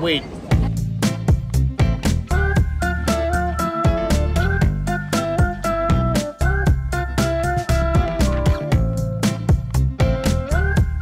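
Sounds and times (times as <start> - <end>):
background music with beat: 0.5 - 11.0.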